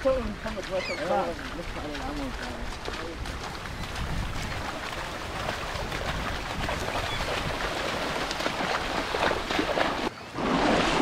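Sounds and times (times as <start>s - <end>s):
feet splashing through shallow water: 0.0s - 11.0s
wind rumbling on microphone: 0.1s - 11.0s.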